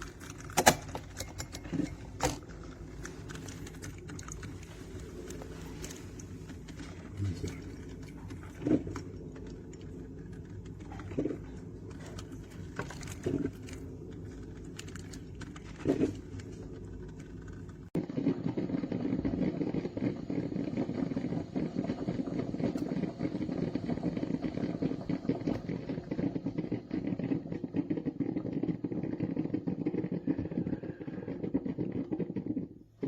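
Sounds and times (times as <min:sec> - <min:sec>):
coffee maker brewing: 0:00.0 - 0:33.0.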